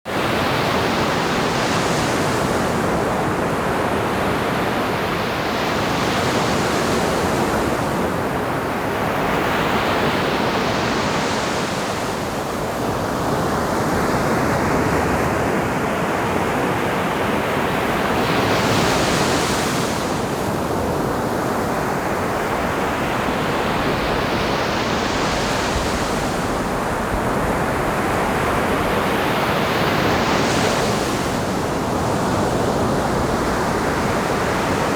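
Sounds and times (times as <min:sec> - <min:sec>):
ocean waves breaking on beach: 0:00.1 - 0:34.9.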